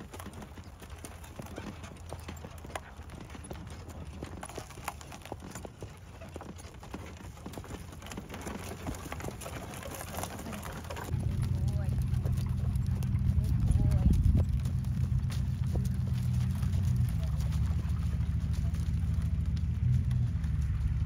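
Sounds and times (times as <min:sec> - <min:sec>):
horse hooves clip-clopping: 0:00.0 - 0:21.0.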